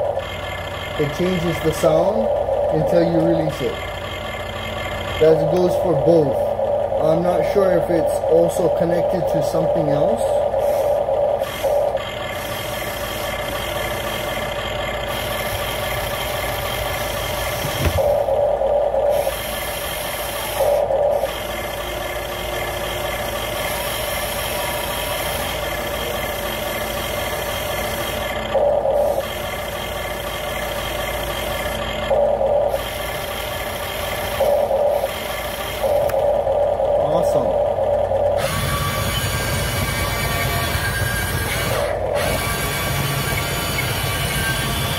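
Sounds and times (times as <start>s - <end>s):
simulated engine sound: 0.0s - 44.9s.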